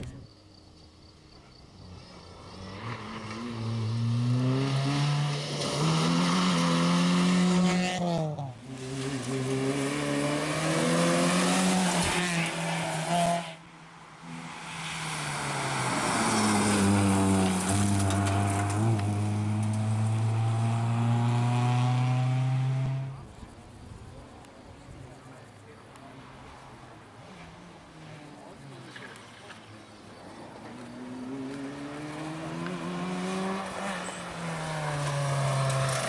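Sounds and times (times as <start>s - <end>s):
rally car engine revving: 1.8s - 23.4s, 27.2s - 36.0s.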